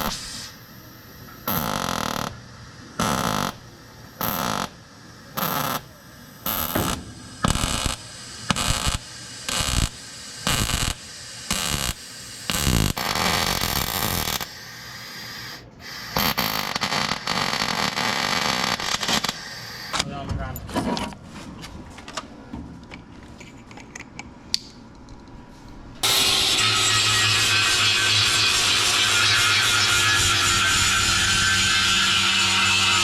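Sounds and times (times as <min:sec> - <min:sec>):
welder buzzing and crackling: 0:00.0 - 0:20.0, 0:26.0 - 0:33.0.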